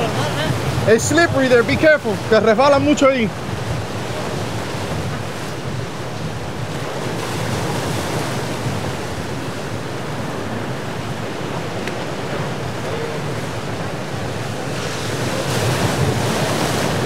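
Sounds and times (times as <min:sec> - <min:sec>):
surf breaking over rocks: 0:00.0 - 0:17.0
wind on microphone: 0:00.0 - 0:17.0.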